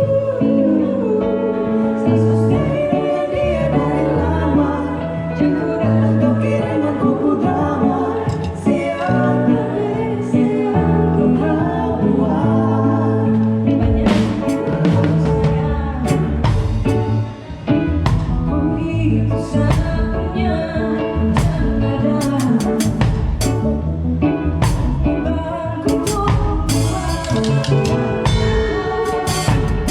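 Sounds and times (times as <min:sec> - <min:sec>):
person singing: 0:00.0 - 0:23.8, 0:24.6 - 0:29.9
held bass notes: 0:00.0 - 0:29.9
live band playing: 0:00.0 - 0:29.9.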